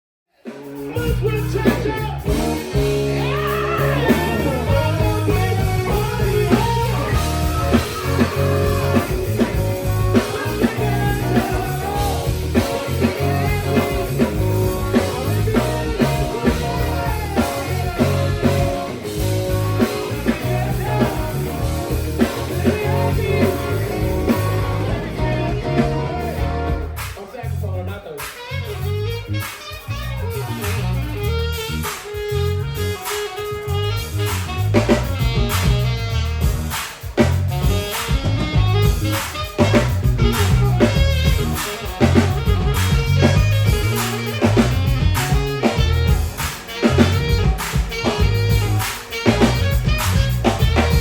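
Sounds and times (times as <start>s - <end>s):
rock song with singing: 0.4s - 33.4s, 34.0s - 51.0s.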